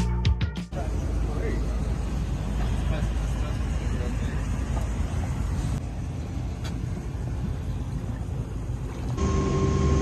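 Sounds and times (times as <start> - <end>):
boat engines rumbling: 0.7 - 10.0
boat engine droning with whine: 0.8 - 10.0.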